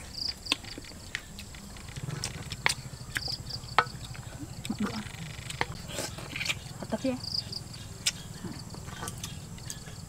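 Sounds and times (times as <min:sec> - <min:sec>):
low hum: 0:00.8 - 0:10.0.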